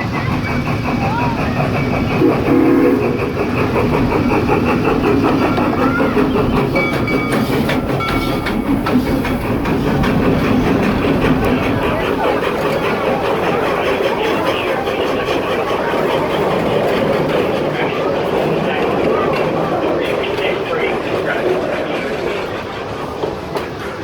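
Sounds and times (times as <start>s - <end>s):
train cars clattering on rails: 0.0s - 24.0s.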